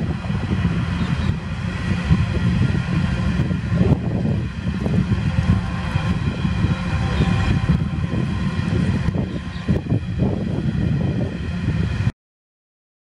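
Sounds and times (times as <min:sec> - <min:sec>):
train wagons rumbling on rails: 0:00.0 - 0:12.1
wind buffeting microphone: 0:00.0 - 0:12.1.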